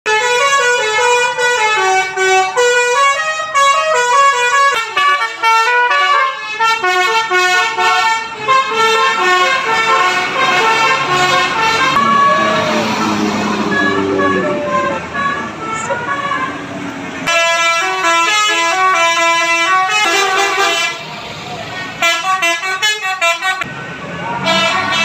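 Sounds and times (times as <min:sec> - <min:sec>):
bus air horns playing melody: 0:00.0 - 0:21.2, 0:21.9 - 0:23.7, 0:24.3 - 0:25.0.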